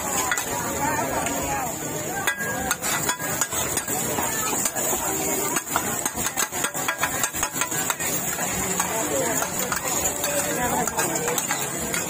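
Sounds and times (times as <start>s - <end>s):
metal spatulas scraping on griddle: 0.1s - 0.8s, 2.2s - 12.0s.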